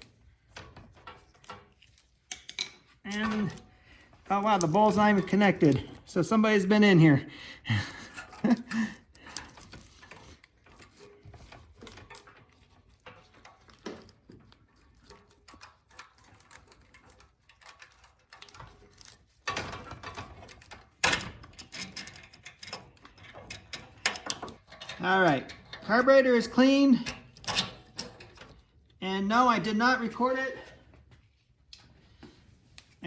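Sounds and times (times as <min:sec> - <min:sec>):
small metal parts clattering: 0:00.0 - 0:07.2, 0:08.1 - 0:28.6.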